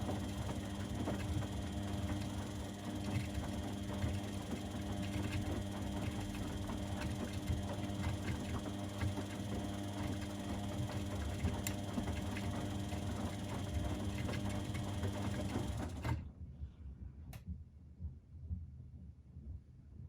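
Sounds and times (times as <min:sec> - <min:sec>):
washing machine running: 0:00.0 - 0:16.2.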